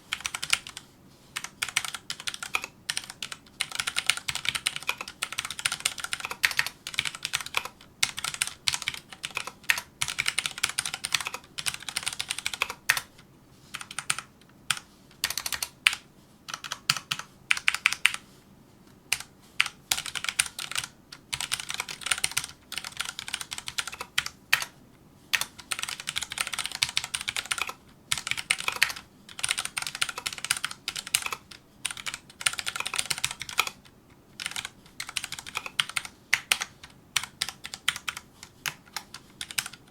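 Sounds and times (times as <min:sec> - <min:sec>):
mechanical keyboard typing: 0:00.1 - 0:00.8, 0:01.4 - 0:13.1, 0:13.7 - 0:18.2, 0:19.1 - 0:24.7, 0:25.3 - 0:39.9.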